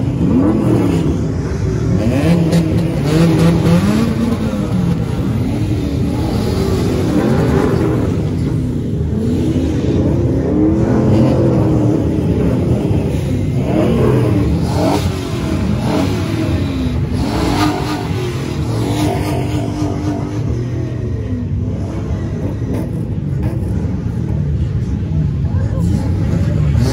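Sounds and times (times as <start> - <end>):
car engines revving: 0.0 - 26.9.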